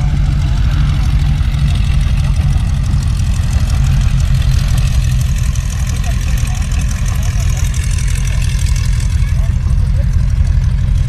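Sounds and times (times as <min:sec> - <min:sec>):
radial engine idling: 0:00.0 - 0:11.0.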